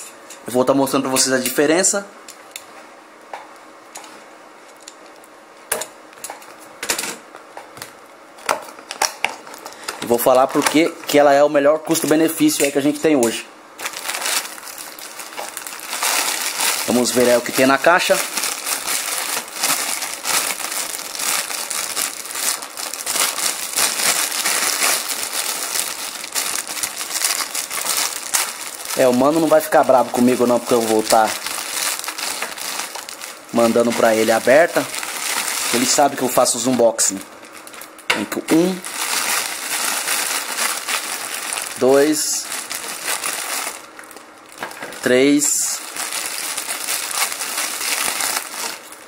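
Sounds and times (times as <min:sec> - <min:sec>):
plastic bag crinkling: 0:08.7 - 0:13.0, 0:13.8 - 0:49.0.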